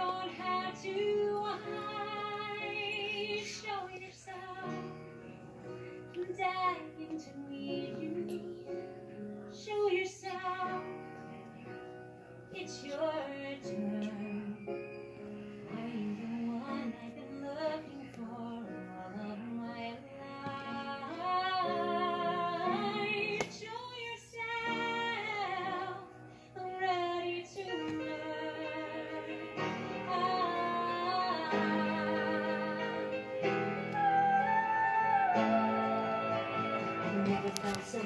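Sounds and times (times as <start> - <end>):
woman singing over instruments: 0.0 - 11.7, 12.5 - 38.0.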